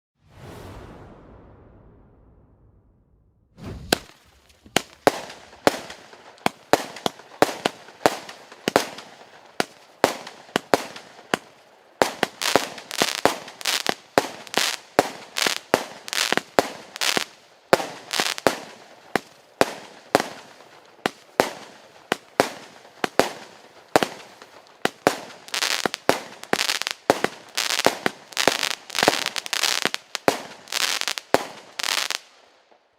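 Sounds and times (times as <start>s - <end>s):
fireworks cake firing sharp bangs: 3.6s - 32.3s.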